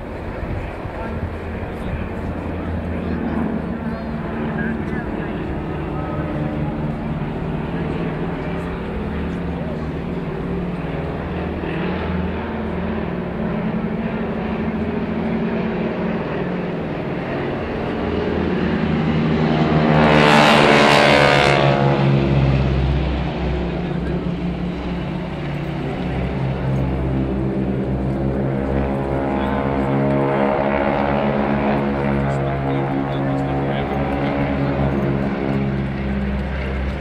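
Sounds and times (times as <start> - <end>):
biplane engines and propellers: 0.0 - 37.0.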